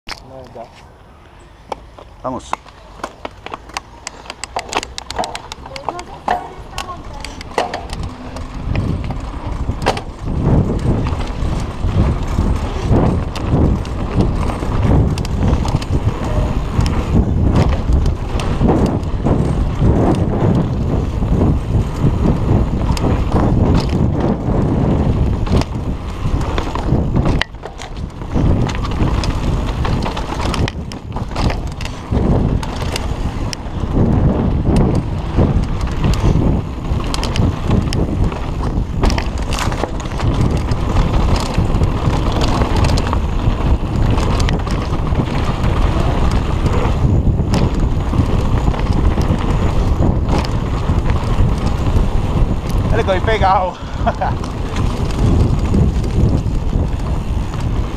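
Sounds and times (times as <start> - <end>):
bike tyres rumbling on dirt: 1.6 - 57.9
bike rattling over bumps: 1.7 - 57.9
wind on microphone: 2.8 - 57.9.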